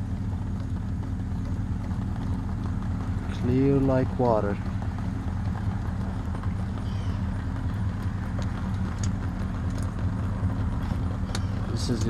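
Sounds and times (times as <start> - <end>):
diesel engine rhythmic clatter: 0.0 - 12.0.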